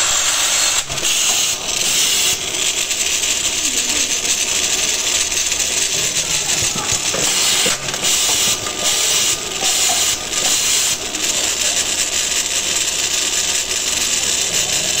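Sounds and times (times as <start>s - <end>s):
loud steady hiss: 0.0s - 13.4s
drilling machine cutting: 0.0s - 15.0s.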